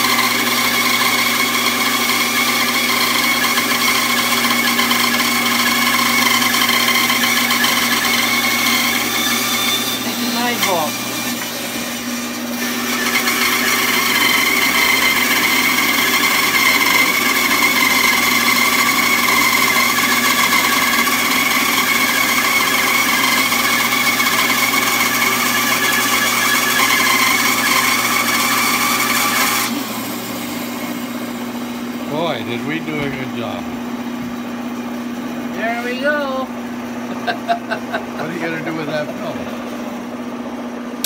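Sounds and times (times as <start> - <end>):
band saw cutting wood: 0.0 - 36.3, 37.1 - 39.8
saw motor hum: 0.0 - 40.4.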